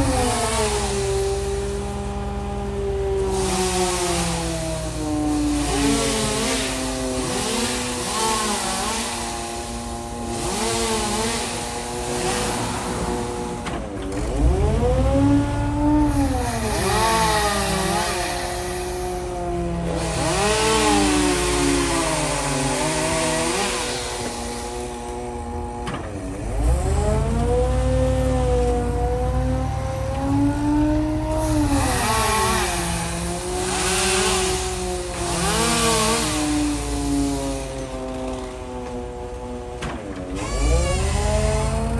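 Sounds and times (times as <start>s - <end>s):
small engine running fast: 0.0s - 41.9s.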